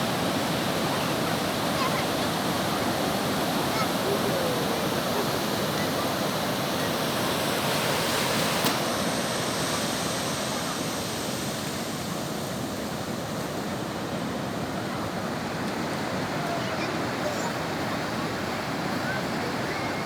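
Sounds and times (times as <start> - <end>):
sea surf washing onto beach: 0.0 - 20.0.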